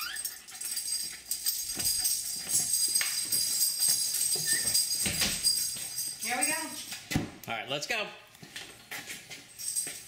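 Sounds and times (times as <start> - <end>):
light metallic jingling: 0.0 - 7.1, 9.0 - 10.0.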